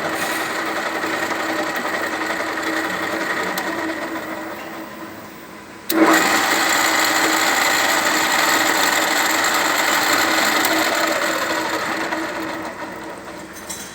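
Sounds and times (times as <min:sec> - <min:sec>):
drill press cutting: 0:00.0 - 0:05.0, 0:05.8 - 0:13.8
machine running hum: 0:00.0 - 0:13.7.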